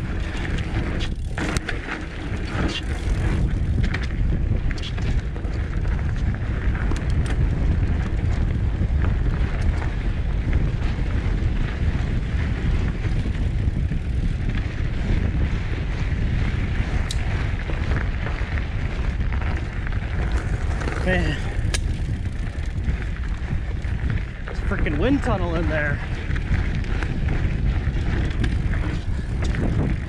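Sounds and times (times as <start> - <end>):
bike rolling over gravel: 0.0 - 30.0
wind on microphone: 0.0 - 30.0.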